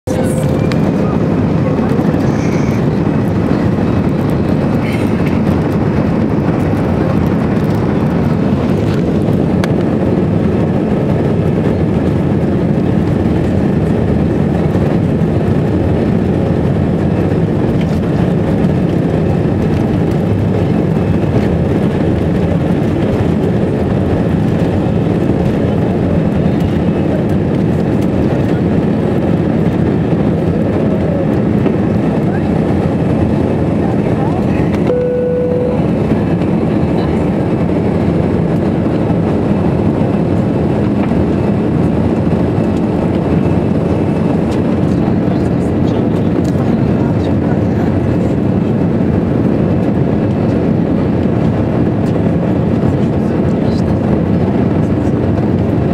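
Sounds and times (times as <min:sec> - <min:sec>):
jet engine rumble in cabin: 0:00.0 - 0:55.9.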